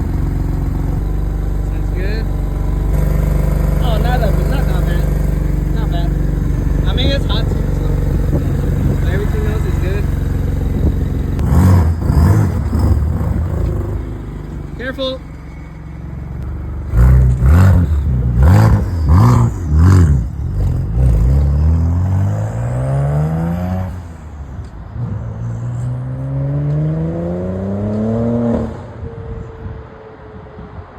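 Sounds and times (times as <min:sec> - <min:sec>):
car engine revving and accelerating: 0:00.0 - 0:29.0.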